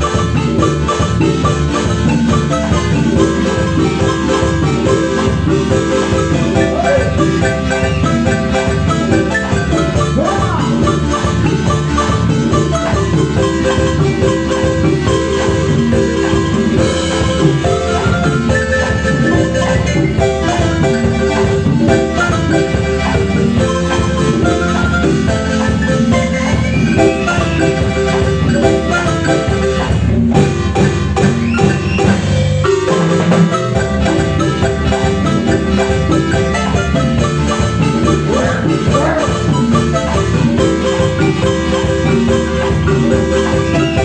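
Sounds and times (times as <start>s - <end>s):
low bass line: 0.0s - 44.0s
marimba ensemble dance music: 0.0s - 44.0s.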